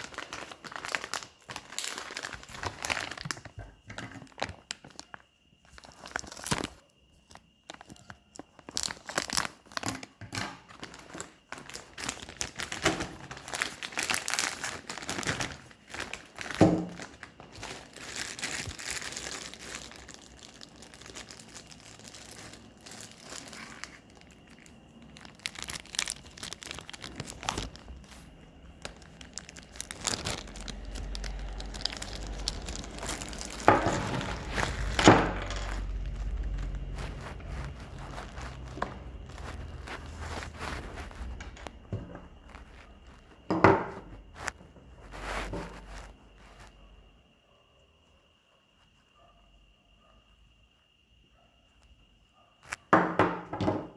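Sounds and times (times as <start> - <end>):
packaging crinkling and tearing: 0.0 - 46.8.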